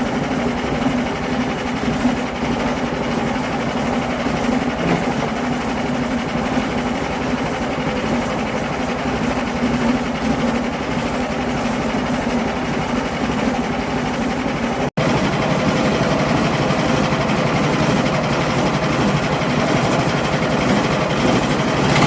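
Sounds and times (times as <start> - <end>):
sawmill cutting a log: 0.0 - 22.0.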